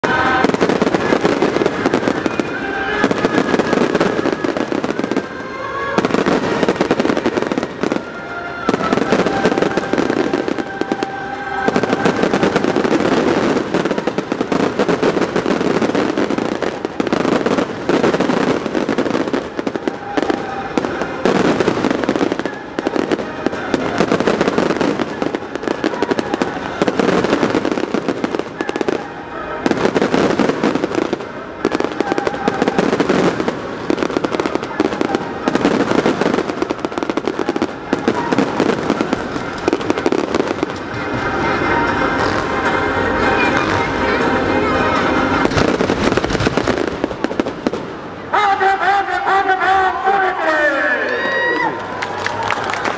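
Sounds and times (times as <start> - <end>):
firecrackers crackling and popping: 0.0 - 52.9.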